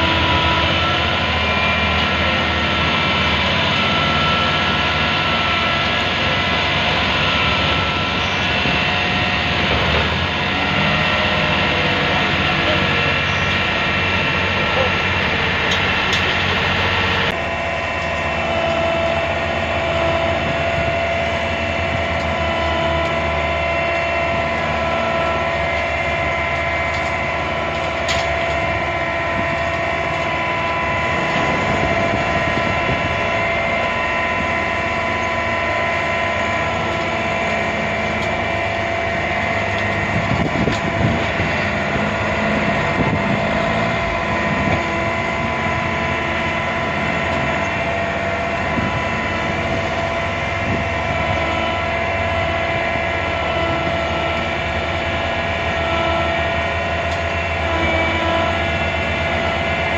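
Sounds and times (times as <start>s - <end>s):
shredder machine drone: 0.0s - 59.9s.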